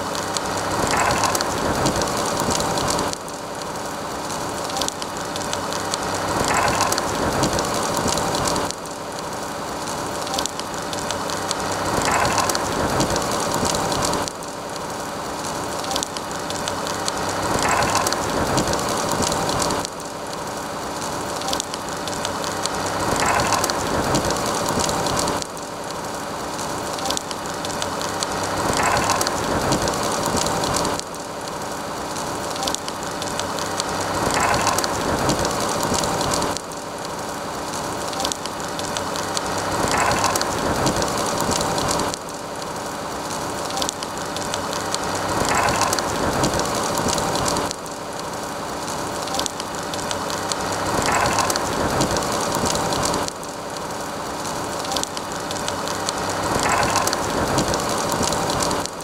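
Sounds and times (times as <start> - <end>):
burning brush crackling and hissing: 0.0 - 59.0.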